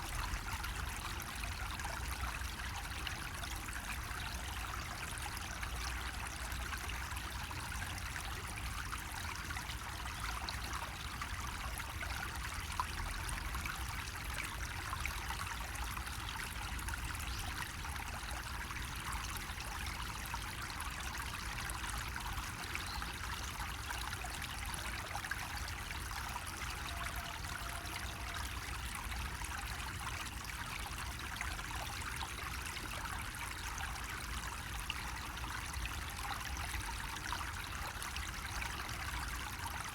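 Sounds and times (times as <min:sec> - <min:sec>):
water trickling from a spout: 0:00.0 - 0:39.9.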